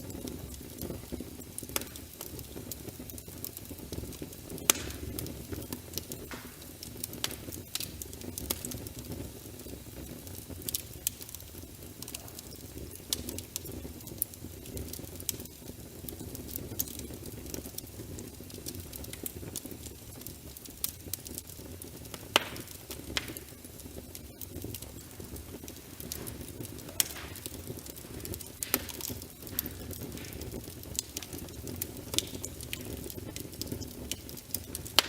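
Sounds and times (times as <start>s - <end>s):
low rumble of flames: 0.0s - 35.0s
sharp pops of fire: 0.0s - 35.0s
wood fire crackling: 0.0s - 35.0s.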